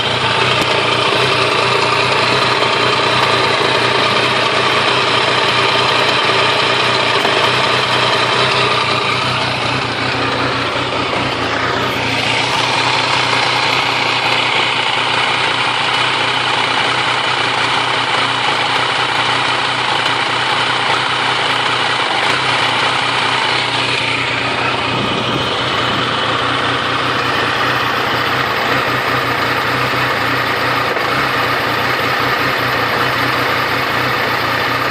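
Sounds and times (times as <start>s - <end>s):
motorcycle engine idling roughly: 0.0s - 34.9s.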